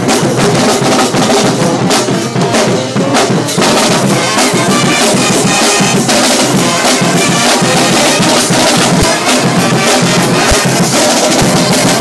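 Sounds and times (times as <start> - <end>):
brass horns playing: 0.0 - 12.0
steady drum beat: 0.0 - 12.0.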